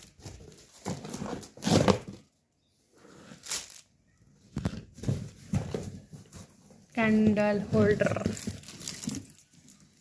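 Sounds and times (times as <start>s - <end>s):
cardboard and plastic rustling: 0.0s - 10.0s.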